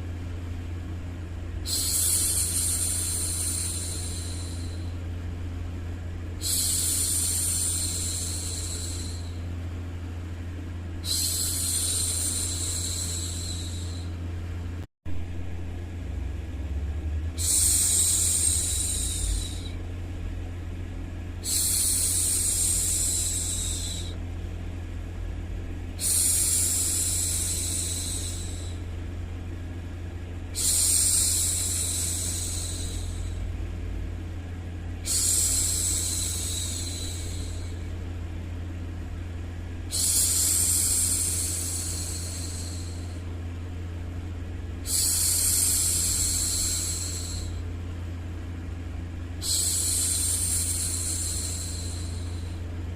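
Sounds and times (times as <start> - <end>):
low rumbling noise: 0.0 - 52.9.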